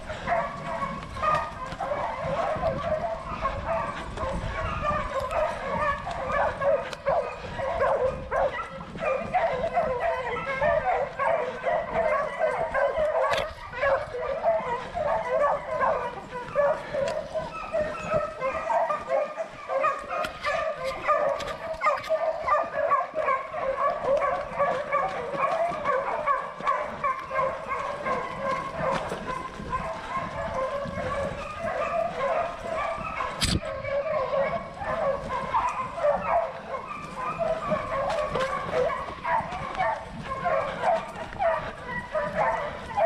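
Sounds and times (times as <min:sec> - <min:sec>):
dogs baying in chorus: 0:00.0 - 0:43.0.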